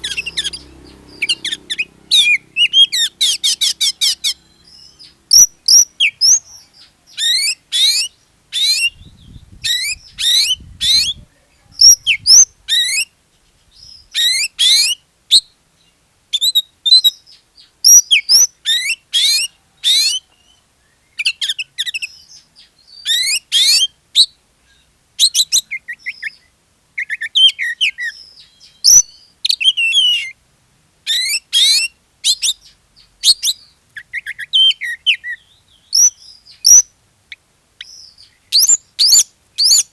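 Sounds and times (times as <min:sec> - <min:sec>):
bird singing whistled notes: 0:00.0 - 0:13.1, 0:13.7 - 0:15.5, 0:16.4 - 0:30.4, 0:31.1 - 0:36.9, 0:37.8 - 0:39.9.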